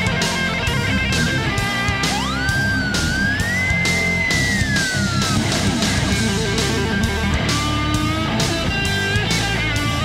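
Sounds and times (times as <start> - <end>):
electric guitar bent notes: 0.0 - 10.0
steady rock beat: 0.0 - 10.0.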